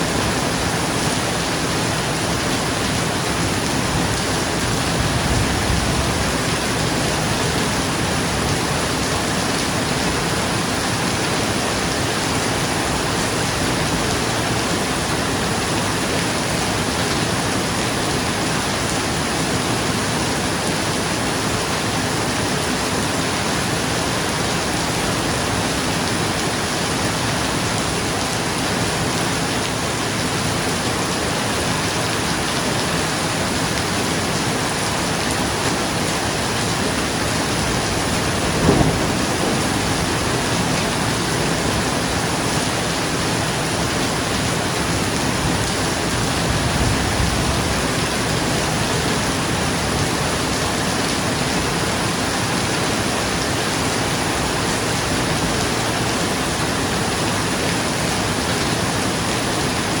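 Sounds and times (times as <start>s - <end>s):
rain falling on a roof: 0.0s - 60.0s.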